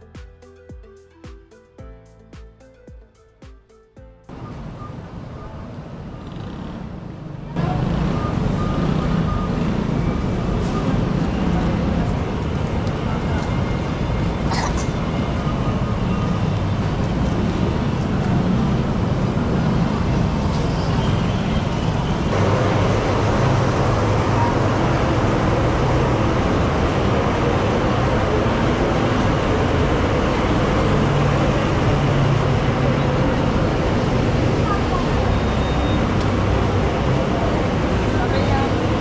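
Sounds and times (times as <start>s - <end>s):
vehicles passing: 4.3s - 39.0s.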